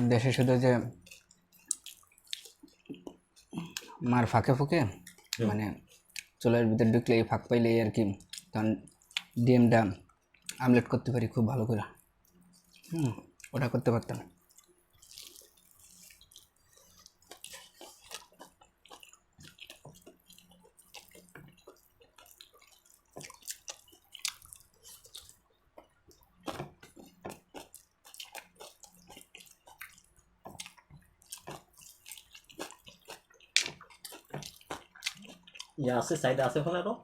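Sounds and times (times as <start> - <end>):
people chewing: 0.0 - 7.1, 8.1 - 10.7, 12.0 - 36.6.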